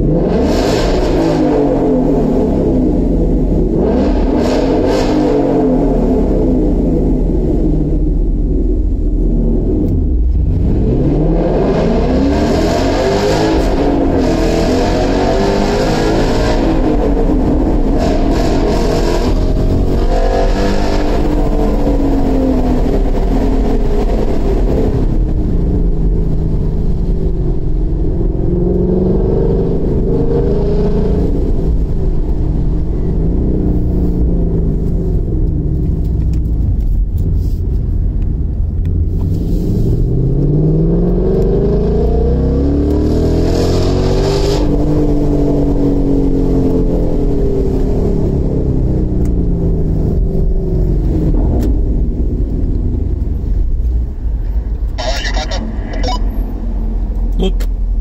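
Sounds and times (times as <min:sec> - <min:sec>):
car engine accelerating in tunnel: 0:00.0 - 0:58.0.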